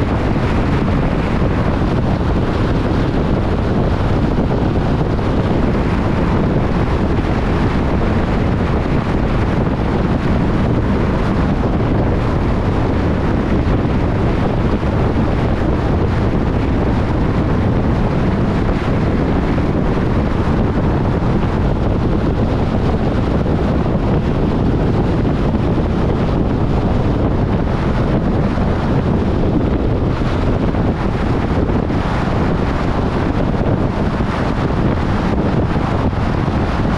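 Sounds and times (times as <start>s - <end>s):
car road noise: 0.0s - 36.9s
wind on microphone: 0.0s - 36.9s.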